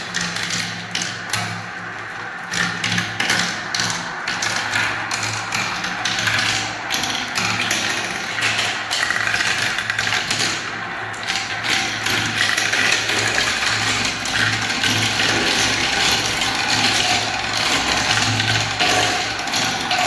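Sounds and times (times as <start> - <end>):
marbles rattling down a track: 0.0 - 20.0.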